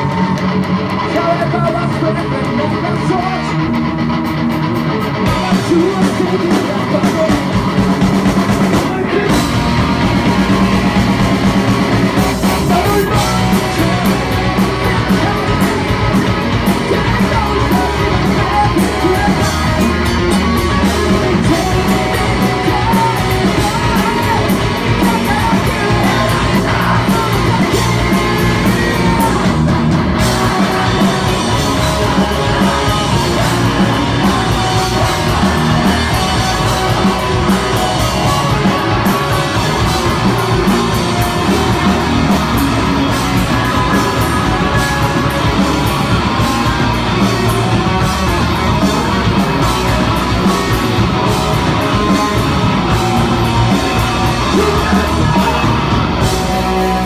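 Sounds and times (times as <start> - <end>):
bass guitar: 0.0 - 57.0
drums: 0.0 - 57.0
electric guitars: 0.0 - 57.0.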